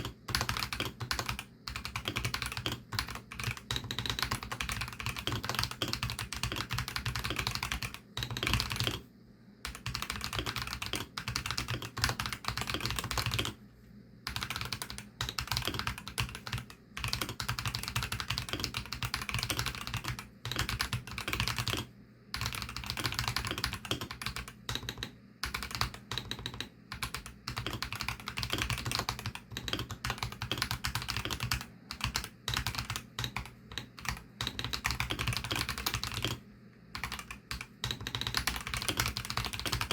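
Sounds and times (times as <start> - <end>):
typing on mechanical keyboard: 0.0 - 9.0, 9.7 - 13.6, 14.3 - 36.4, 37.0 - 39.9.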